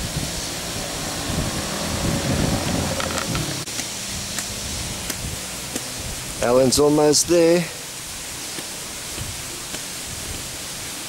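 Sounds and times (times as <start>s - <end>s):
wind and rustling foliage: 0.0s - 11.0s
wind rumbling on microphone: 0.0s - 11.0s.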